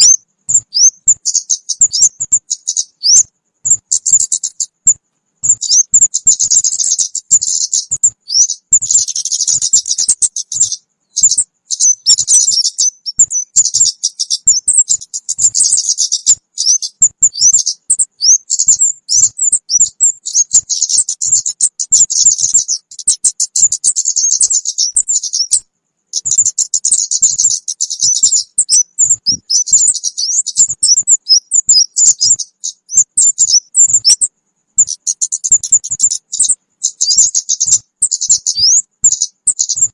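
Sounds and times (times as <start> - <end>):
rapid high-pitched bird chirps: 0.0 - 39.9.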